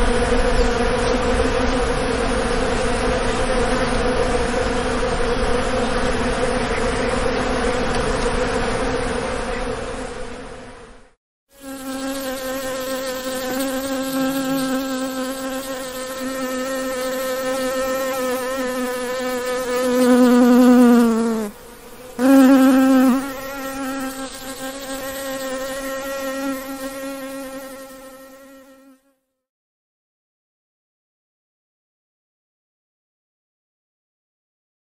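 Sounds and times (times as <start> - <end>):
bee buzzing: 0.0 - 10.4, 11.5 - 29.2.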